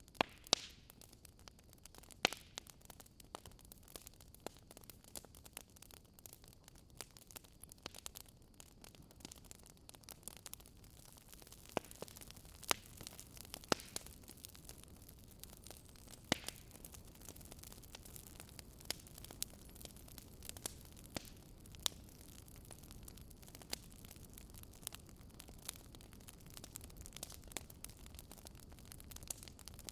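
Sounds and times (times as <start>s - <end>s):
campfire crackling and popping: 0.0s - 29.9s
faint steady hiss: 0.0s - 29.9s.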